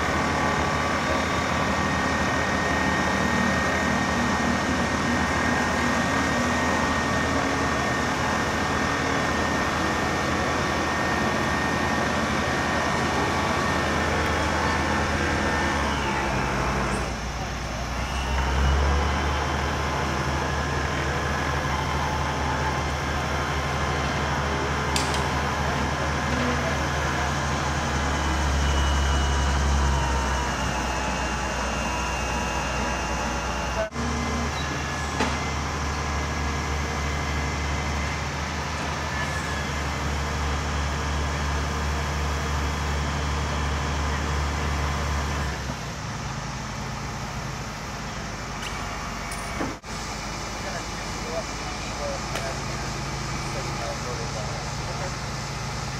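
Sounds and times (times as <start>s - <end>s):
low engine-like drone: 0.0s - 55.9s.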